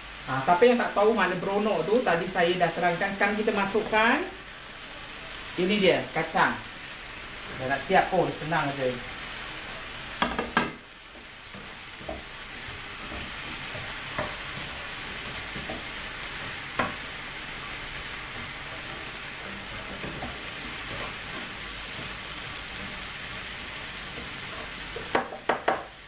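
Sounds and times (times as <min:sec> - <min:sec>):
vegetables sizzling in a hot pan: 0:00.0 - 0:26.0.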